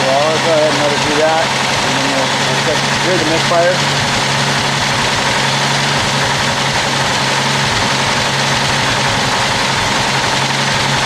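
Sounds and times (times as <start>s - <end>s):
engine idling with misfire: 0.0s - 11.0s.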